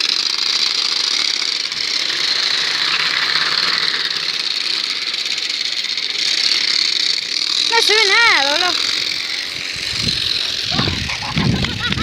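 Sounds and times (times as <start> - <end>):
small engine buzzing: 0.0 - 12.0.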